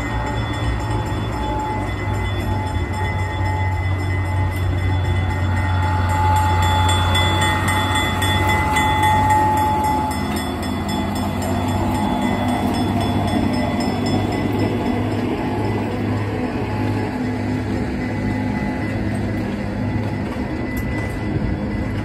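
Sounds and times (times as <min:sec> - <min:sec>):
diesel locomotive engine drone: 0:00.0 - 0:22.0
railway cars rolling on rails: 0:00.0 - 0:22.0.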